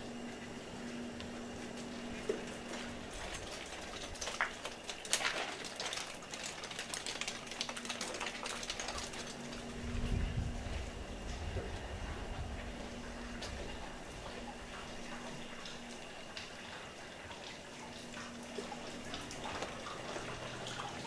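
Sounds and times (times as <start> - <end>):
steady low hum: 0.0 - 6.1, 6.7 - 21.0.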